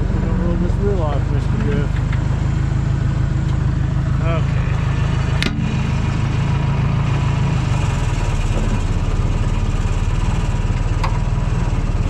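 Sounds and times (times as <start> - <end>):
heavy equipment engine running: 0.0 - 12.0.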